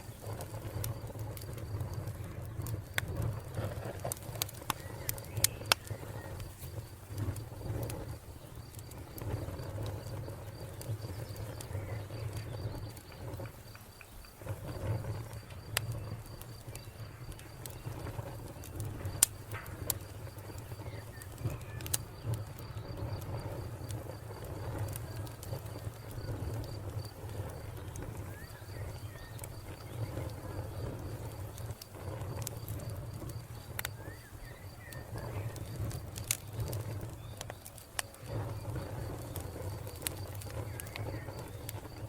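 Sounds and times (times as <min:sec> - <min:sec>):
cricket chirping: 0:00.0 - 0:42.0
wood fire crackling: 0:00.0 - 0:42.0.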